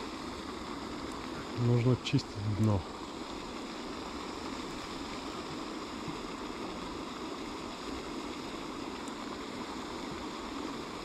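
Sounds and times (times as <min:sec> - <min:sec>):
fountain spraying water: 0:00.0 - 0:11.0.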